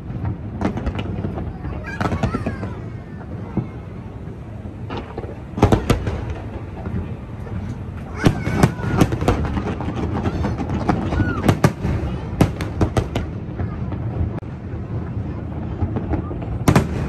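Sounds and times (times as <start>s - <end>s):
fireworks bangs: 0.0s - 17.0s
murmur of crowd voices: 0.0s - 17.0s.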